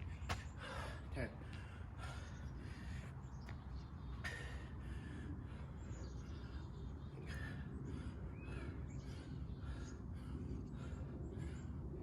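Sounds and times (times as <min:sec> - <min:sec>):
outdoor background noise: 0:00.0 - 0:12.0
person breathing hard: 0:00.5 - 0:03.2, 0:04.2 - 0:06.6, 0:07.2 - 0:12.0.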